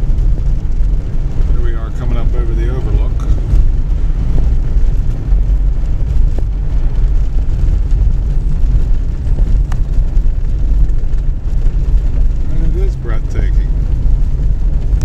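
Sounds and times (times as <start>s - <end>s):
tyres and engine rumble: 0.0s - 15.0s.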